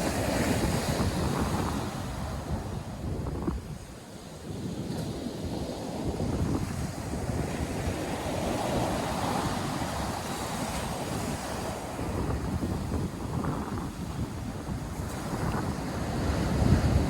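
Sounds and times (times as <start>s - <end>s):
surf washing onto shore: 0.0s - 17.0s
wind buffeting microphone: 0.0s - 17.0s.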